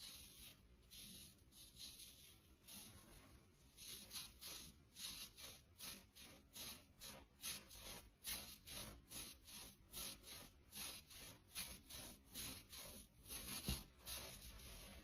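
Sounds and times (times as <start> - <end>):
rubbing of nylon stockings: 0.0 - 15.0.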